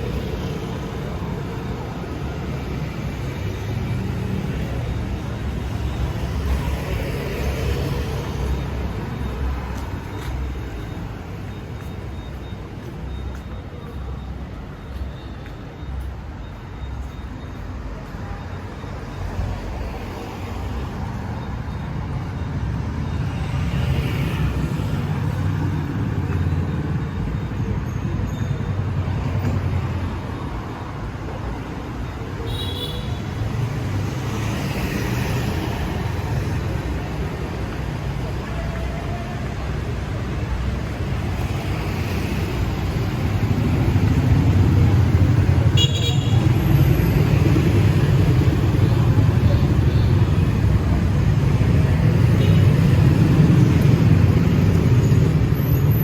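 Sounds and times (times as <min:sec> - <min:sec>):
traffic engines rumbling: 0:00.0 - 0:56.0.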